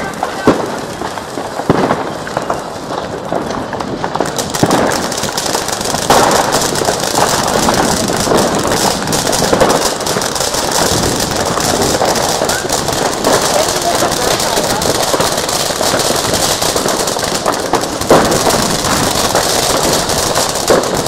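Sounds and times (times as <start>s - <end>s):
firework sparks hissing and crackling: 0.0s - 21.0s.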